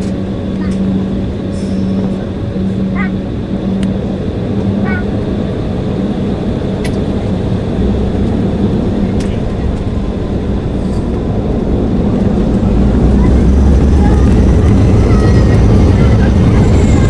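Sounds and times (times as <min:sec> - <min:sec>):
airliner engines roaring: 0:00.0 - 0:17.0.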